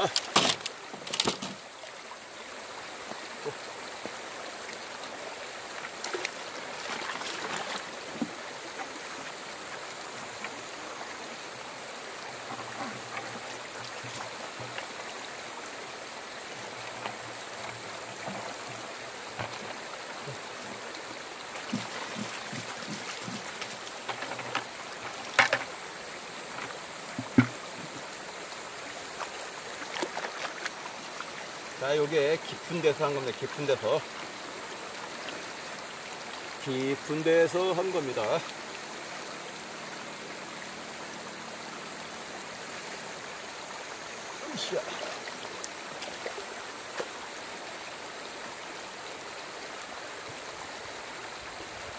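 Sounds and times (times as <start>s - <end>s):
water sloshing and splashing: 0.0s - 47.8s
river water running: 0.0s - 51.9s.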